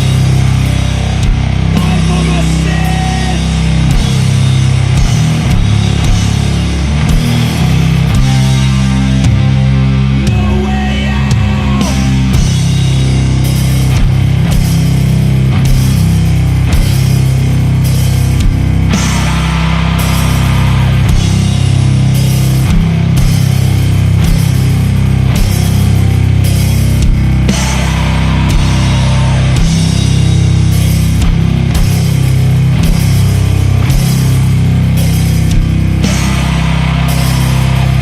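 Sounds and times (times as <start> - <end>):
distorted guitar and bass chords: 0.0 - 38.0
drums and cymbals: 0.0 - 38.0.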